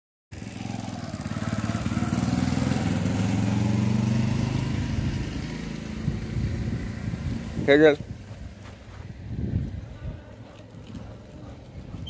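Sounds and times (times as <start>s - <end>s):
motorcycle engine running: 0.3s - 12.0s.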